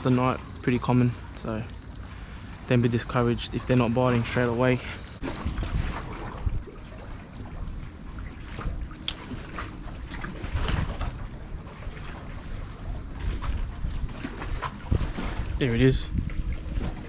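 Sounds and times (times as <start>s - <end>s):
water lapping against wharf: 0.0s - 17.0s
wind buffeting microphone: 3.0s - 17.0s.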